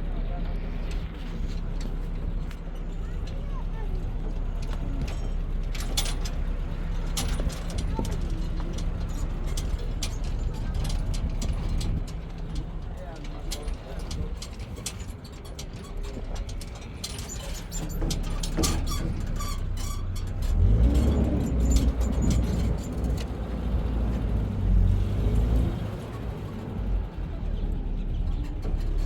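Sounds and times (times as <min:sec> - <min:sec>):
vehicle engine rumbling: 0:00.0 - 0:29.0
rattles and clicks: 0:00.4 - 0:29.0.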